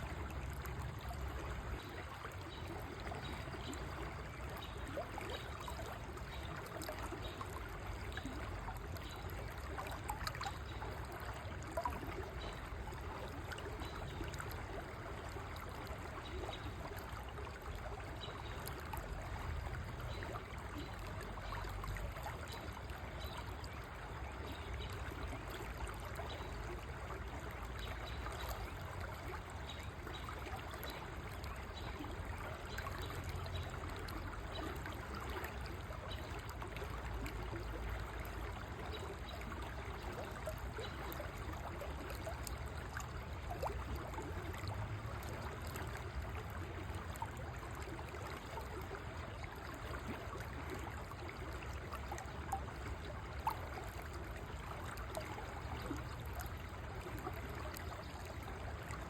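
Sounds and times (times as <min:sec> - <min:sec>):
stream flowing and gurgling: 0:00.0 - 0:59.0.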